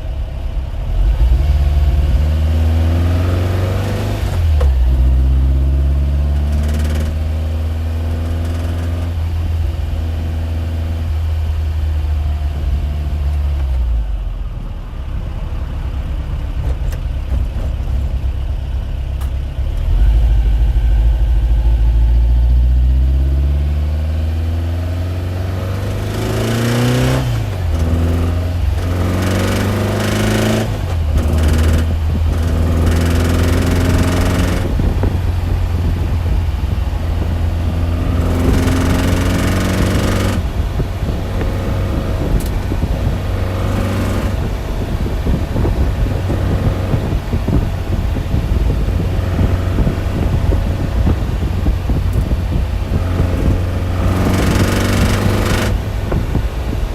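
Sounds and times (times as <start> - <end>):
low hum: 0.0 - 56.9
engine revving up and down: 0.8 - 11.3, 19.6 - 56.9.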